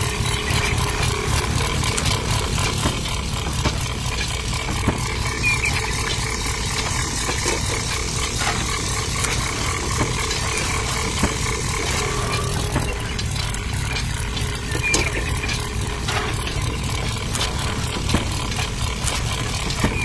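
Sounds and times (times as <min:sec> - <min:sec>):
small motor running: 0:00.0 - 0:20.0.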